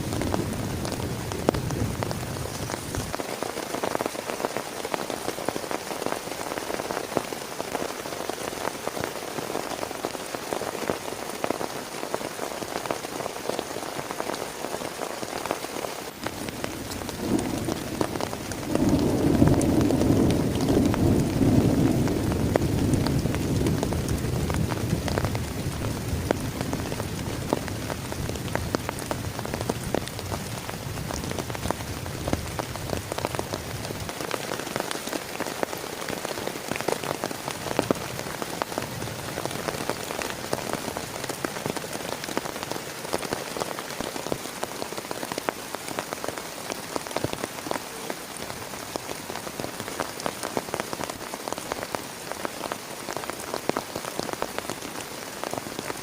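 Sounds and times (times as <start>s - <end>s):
heavy rain on plastic tarp: 0.0s - 56.0s.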